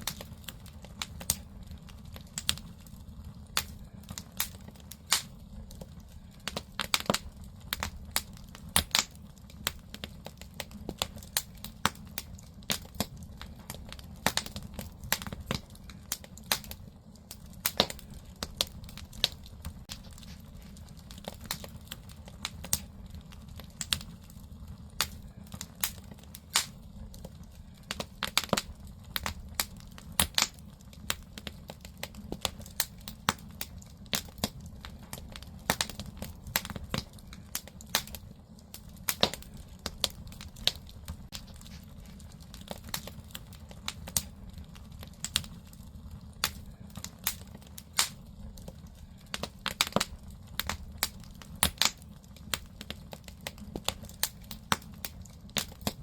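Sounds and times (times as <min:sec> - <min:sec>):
burning logs crackling and popping: 0:00.0 - 0:56.0
low rumble of fire: 0:00.0 - 0:56.0.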